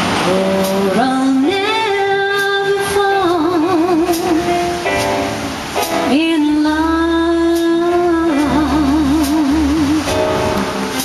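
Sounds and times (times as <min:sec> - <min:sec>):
woman singing swing song: 0:00.2 - 0:04.8, 0:05.9 - 0:11.0.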